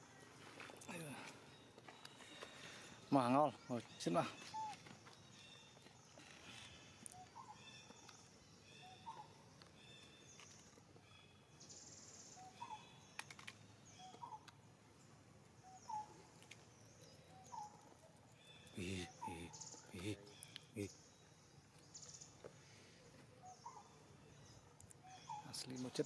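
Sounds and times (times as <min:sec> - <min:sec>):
faint high bird chirps: 0:00.0 - 0:14.6, 0:15.6 - 0:22.4, 0:23.4 - 0:26.0.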